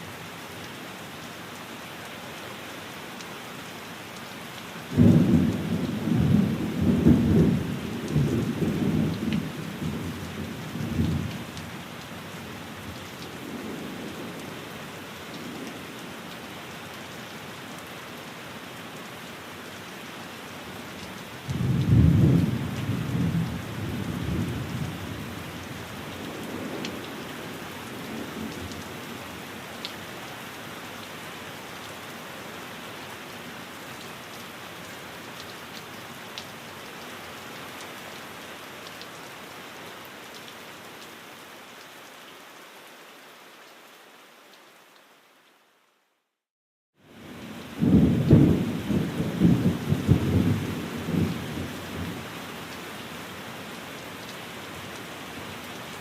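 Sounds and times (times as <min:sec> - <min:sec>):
steady rain falling: 0:00.0 - 0:46.4, 0:47.0 - 0:56.0.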